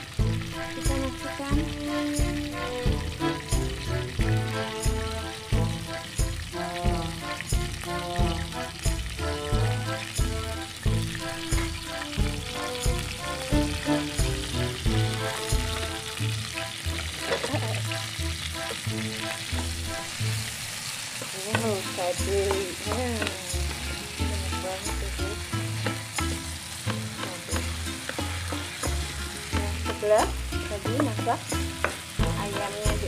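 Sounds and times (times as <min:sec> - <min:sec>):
vegetables sizzling in hot oil: 0:00.0 - 0:33.0.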